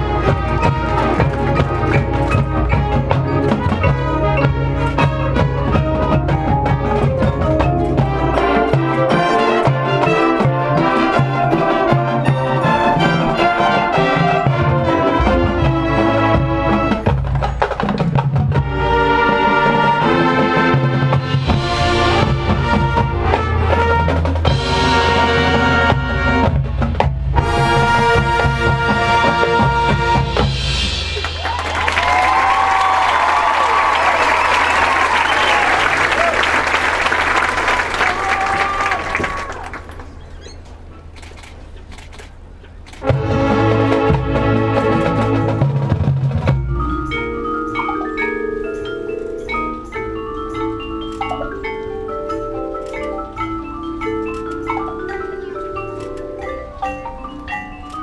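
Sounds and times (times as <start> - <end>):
low drums: 0.0 - 35.8, 41.1 - 56.1
marching band brass: 0.0 - 40.1, 42.8 - 56.8.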